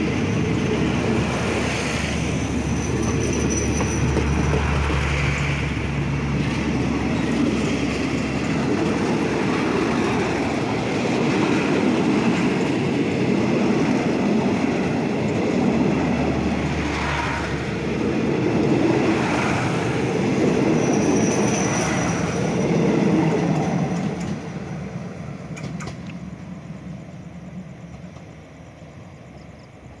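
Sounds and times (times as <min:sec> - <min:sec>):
train wheels clattering on rails: 0:00.0 - 0:17.6, 0:18.4 - 0:26.3.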